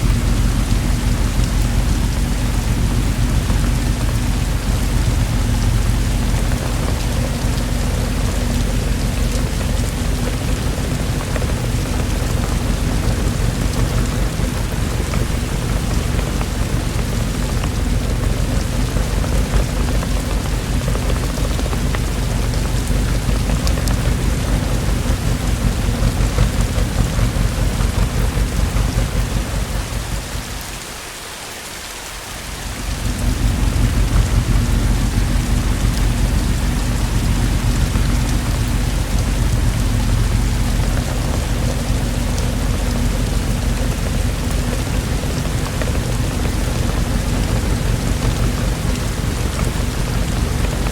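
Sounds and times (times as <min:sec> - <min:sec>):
deep low thunder rumble: 0:00.0 - 0:30.8, 0:32.6 - 0:50.9
heavy rainfall: 0:00.0 - 0:50.9.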